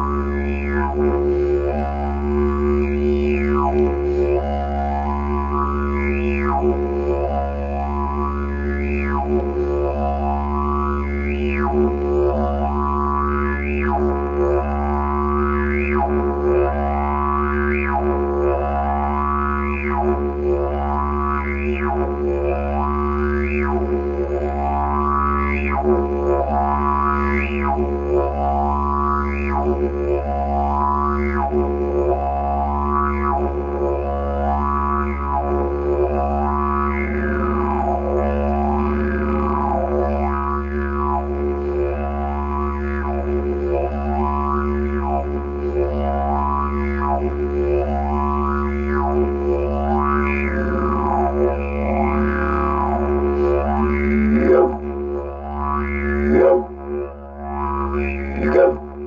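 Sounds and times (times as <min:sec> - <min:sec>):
didgeridoo drone: 0:00.0 - 0:59.0.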